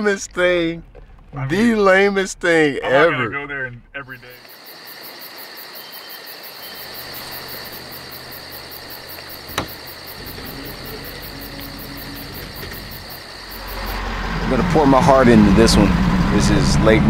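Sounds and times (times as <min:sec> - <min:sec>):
night insects chirping: 0:00.0 - 0:03.3, 0:03.9 - 0:17.0
low vehicle engine hum: 0:00.0 - 0:04.4, 0:06.7 - 0:17.0.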